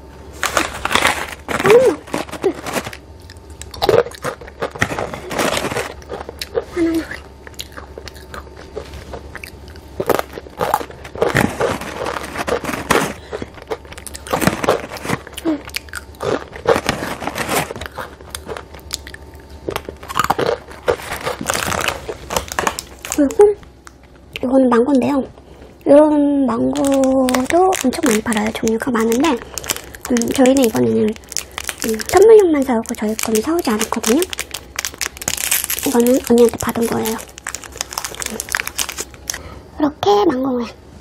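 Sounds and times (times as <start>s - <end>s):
chips being chewed with crunches: 0.4s - 24.5s, 26.5s - 39.5s.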